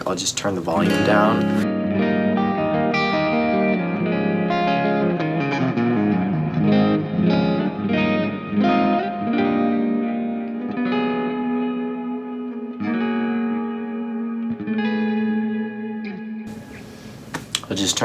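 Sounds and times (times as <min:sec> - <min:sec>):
electric guitar with delay and reverb: 0:00.8 - 0:16.4.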